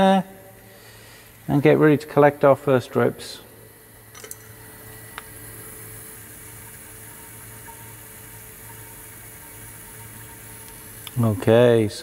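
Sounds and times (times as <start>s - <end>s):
still humming and hissing: 0.0s - 12.0s
cooling water flowing: 0.9s - 12.0s.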